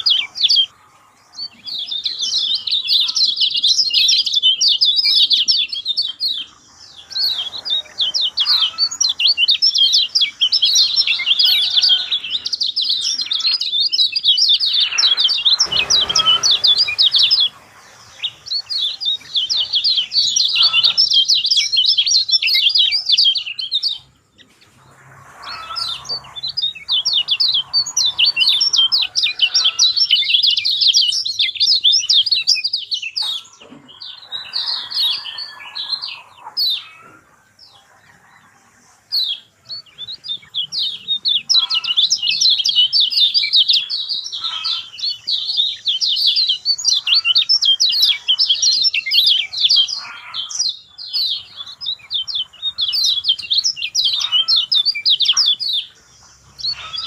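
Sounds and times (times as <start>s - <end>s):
birds chattering in high chirps: 0.0s - 57.0s.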